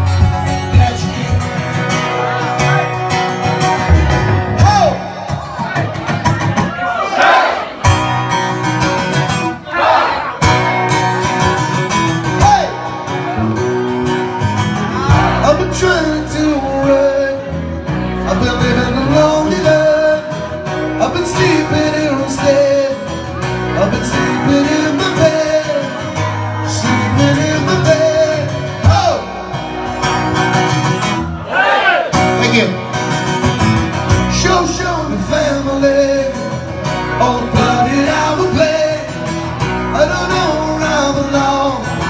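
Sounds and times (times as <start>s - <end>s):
electric bass guitar: 0.0s - 6.7s, 10.4s - 31.4s, 32.2s - 42.0s
strummed acoustic guitar: 0.0s - 31.5s, 32.1s - 42.0s.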